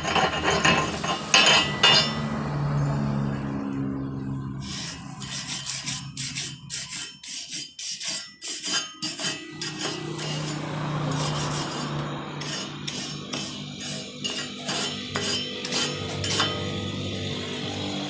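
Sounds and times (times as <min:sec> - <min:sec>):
scraping strokes on metal: 0:00.0 - 0:02.4, 0:04.6 - 0:18.0.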